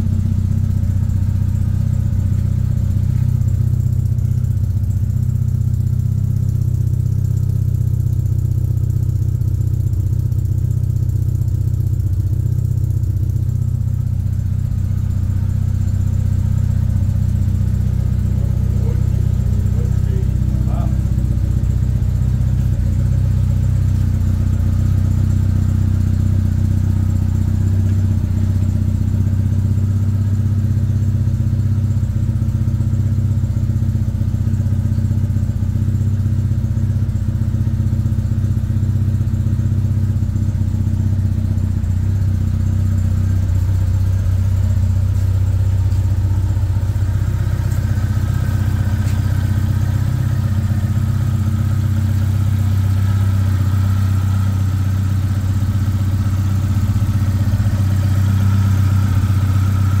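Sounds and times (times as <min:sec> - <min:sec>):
car engine running: 0:00.0 - 1:00.0.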